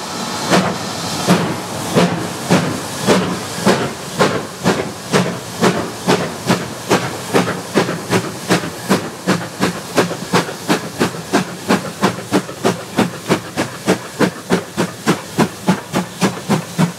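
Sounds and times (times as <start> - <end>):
steam locomotive exhaust chuffs: 0.0 - 16.9.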